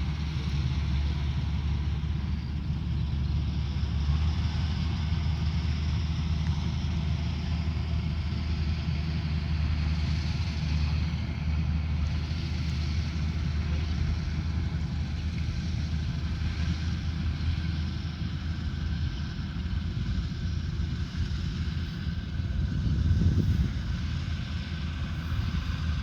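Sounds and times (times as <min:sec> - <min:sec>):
combine harvester engine running: 0:00.0 - 0:26.0.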